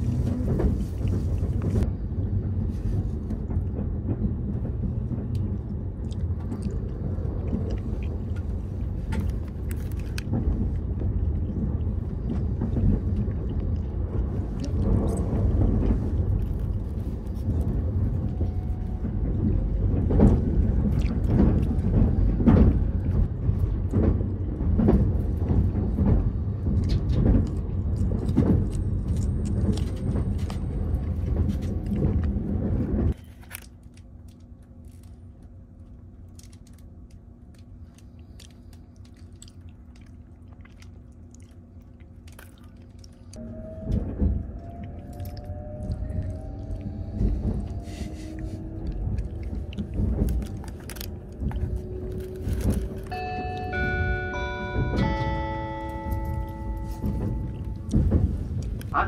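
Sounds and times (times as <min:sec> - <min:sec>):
train rumble inside carriage: 0:00.0 - 0:59.0.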